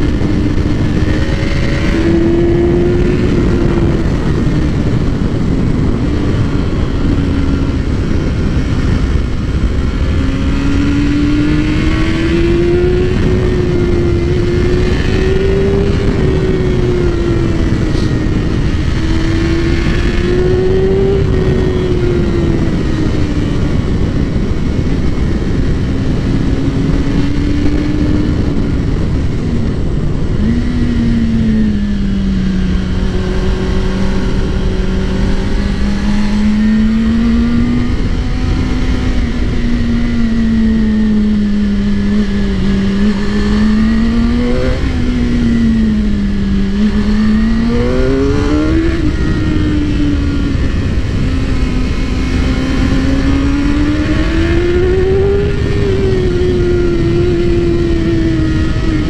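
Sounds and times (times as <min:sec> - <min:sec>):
motorcycle engine and exhaust: 0:00.0 - 0:59.0
wind rushing on microphone: 0:00.0 - 0:59.0.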